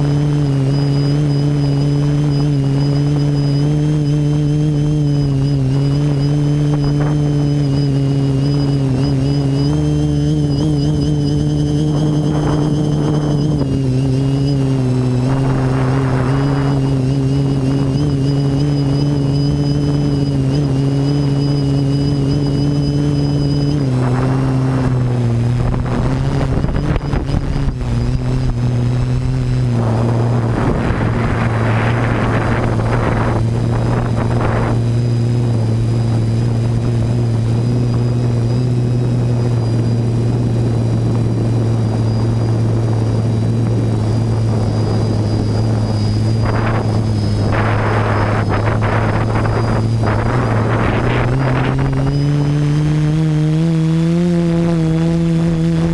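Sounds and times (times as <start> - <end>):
quadcopter motors droning: 0.0 - 55.9
rushing noise bursts: 9.1 - 55.9.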